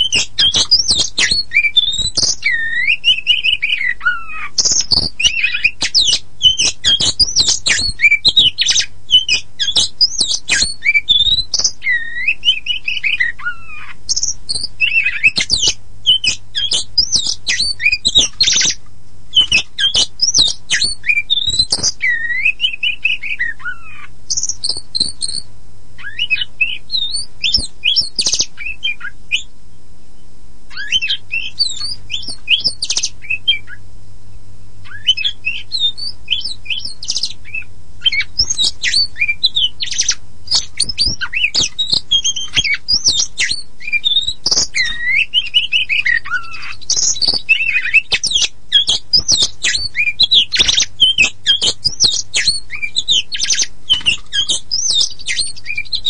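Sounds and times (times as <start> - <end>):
bird singing whistles and trills: 0.0 - 33.8, 34.8 - 56.0
low steady hum: 0.0 - 55.9.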